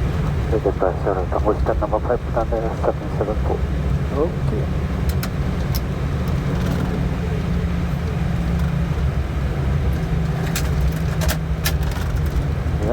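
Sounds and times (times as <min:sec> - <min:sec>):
jet engines idling: 0:00.0 - 0:12.9.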